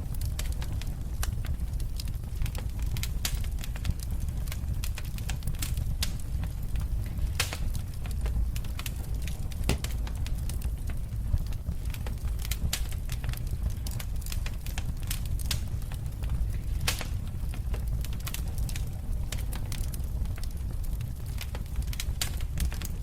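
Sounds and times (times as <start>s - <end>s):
wood fire crackling in fireplace: 0.0s - 23.0s.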